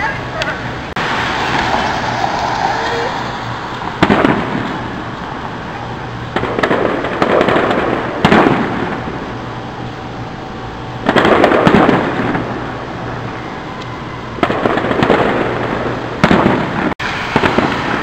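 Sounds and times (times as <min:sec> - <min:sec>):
fireworks bangs: 0:01.0 - 0:18.0
rumbling echo: 0:01.0 - 0:18.0.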